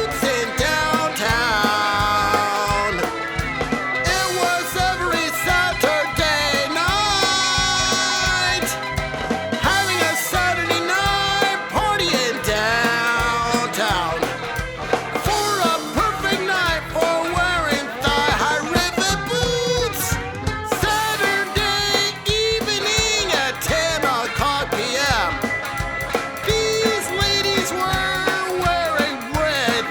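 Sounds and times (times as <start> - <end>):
person singing with vibrato: 0.0 - 8.9, 9.6 - 14.6, 15.2 - 25.5, 26.4 - 29.9
bass: 0.0 - 29.9
drum beat: 0.0 - 29.9.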